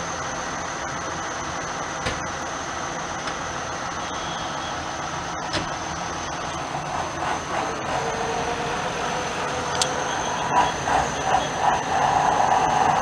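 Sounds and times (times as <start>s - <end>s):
distant tractor engines droning: 0.0s - 13.0s.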